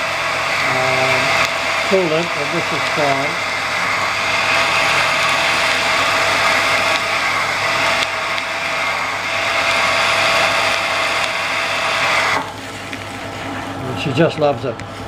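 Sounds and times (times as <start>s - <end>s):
drill cutting into steel: 0.0s - 12.6s.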